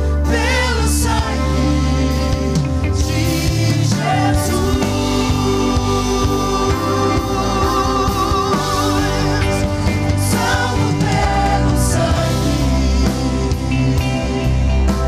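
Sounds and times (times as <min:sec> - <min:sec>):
band playing sustained chords: 0:00.0 - 0:15.0.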